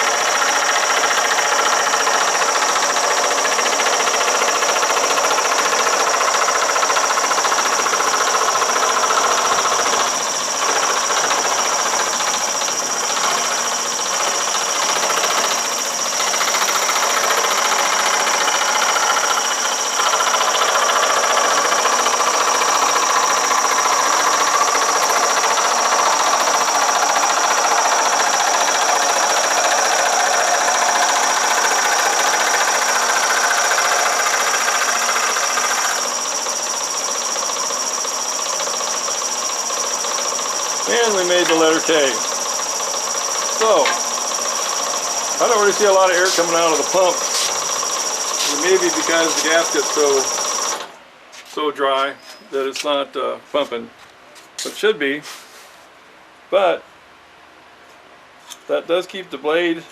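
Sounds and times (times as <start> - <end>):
scroll saw cutting wood: 0.0 - 51.0
steady high whine: 0.0 - 52.8.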